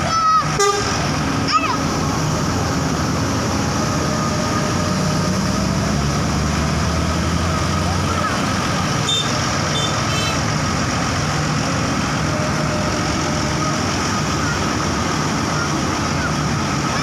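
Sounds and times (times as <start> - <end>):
road traffic with heavy vehicles: 0.0 - 17.0.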